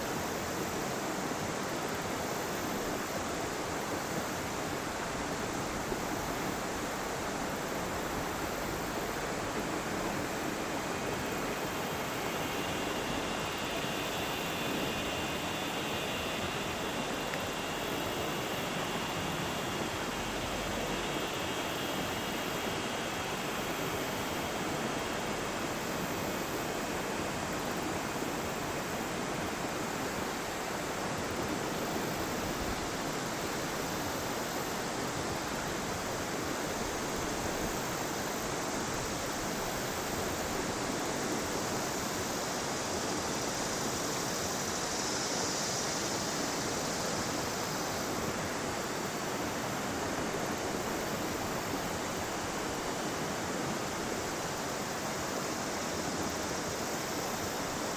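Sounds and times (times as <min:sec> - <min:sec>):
river water rushing: 0:00.1 - 0:57.9.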